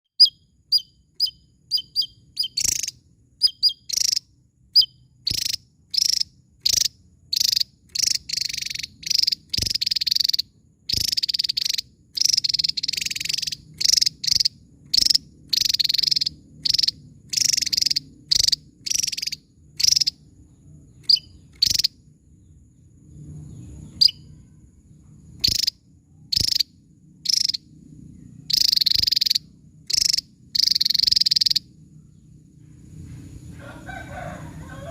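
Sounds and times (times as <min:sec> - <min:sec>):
bird singing: 0:00.2 - 0:32.5.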